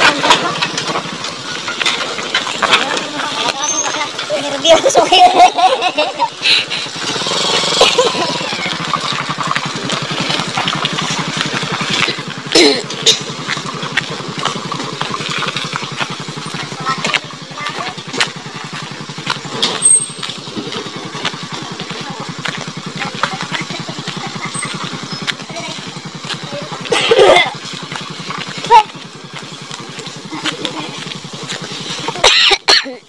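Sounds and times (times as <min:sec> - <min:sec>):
knocks and rattles from bumps: 0:00.0 - 0:32.4
small motorcycle engine running: 0:00.0 - 0:33.0.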